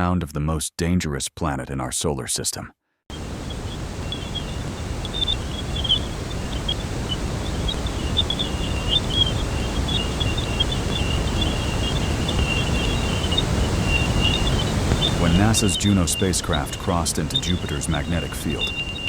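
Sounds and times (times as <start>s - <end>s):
rapid high crackling chirps: 3.1s - 19.0s.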